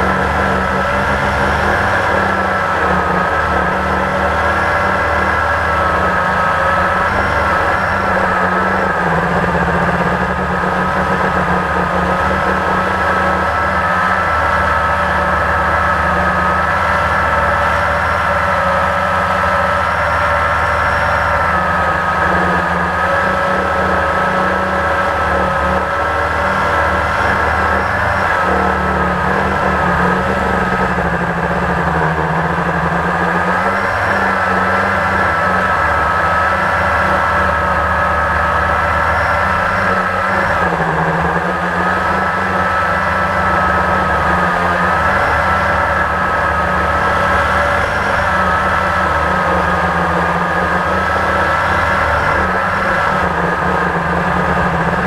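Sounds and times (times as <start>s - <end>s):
quadcopter propellers whirring: 0.0s - 55.0s.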